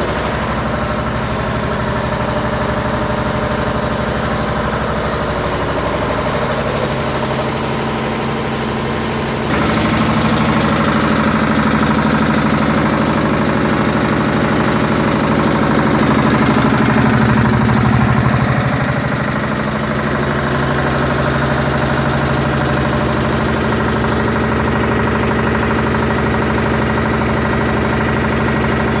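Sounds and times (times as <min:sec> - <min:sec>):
diesel generator running: 0:00.0 - 0:29.0.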